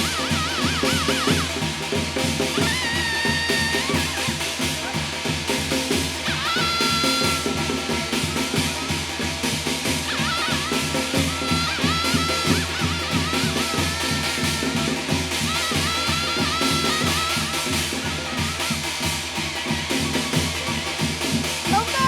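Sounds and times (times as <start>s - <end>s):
drums beating fast rhythm: 0.0s - 22.0s.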